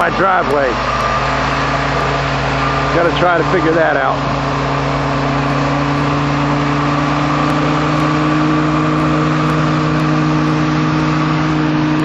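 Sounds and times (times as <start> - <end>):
snow-clearing vehicle engine: 0.0 - 12.0.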